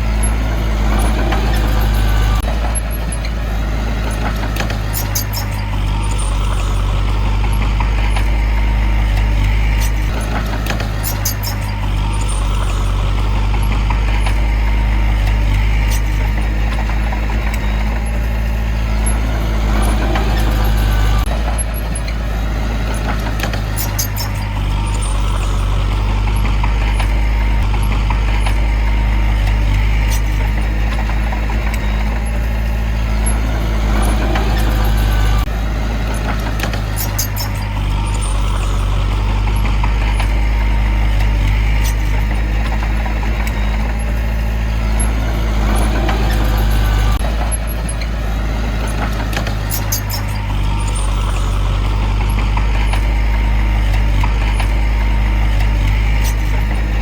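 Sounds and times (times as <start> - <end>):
heavy diesel machinery running: 0.0 - 57.0
metallic clatter: 0.0 - 57.0.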